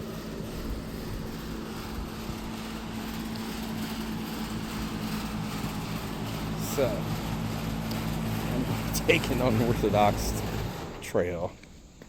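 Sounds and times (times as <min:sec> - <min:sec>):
low machine hum: 0:00.0 - 0:12.0
low rumble: 0:00.0 - 0:12.0.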